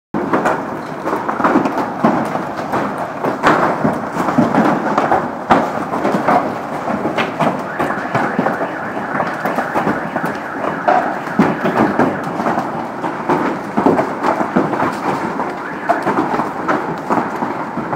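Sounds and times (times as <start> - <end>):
hail clattering: 0.2 - 17.9.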